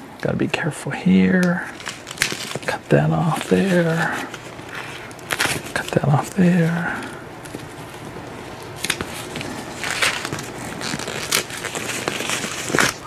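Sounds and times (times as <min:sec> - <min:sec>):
plastic wrap crinkling: 0:01.2 - 0:13.0.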